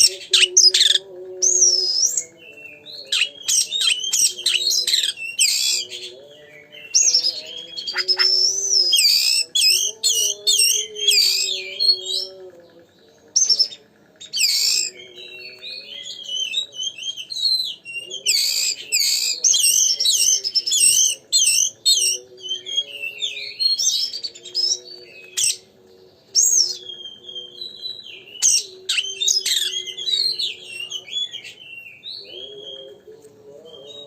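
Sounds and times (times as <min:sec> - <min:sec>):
songbird whistling and chattering: 0:00.0 - 0:12.4, 0:13.3 - 0:33.0.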